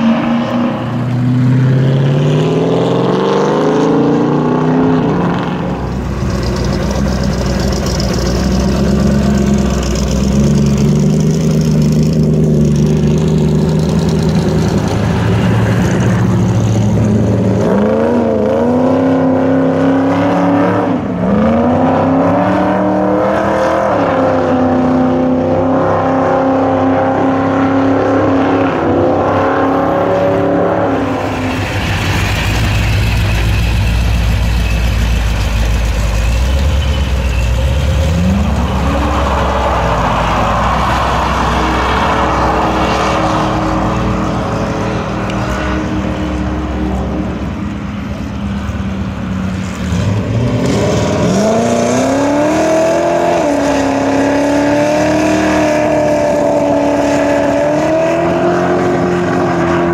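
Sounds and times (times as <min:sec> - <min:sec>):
car engines revving hard: 0:00.0 - 0:59.9.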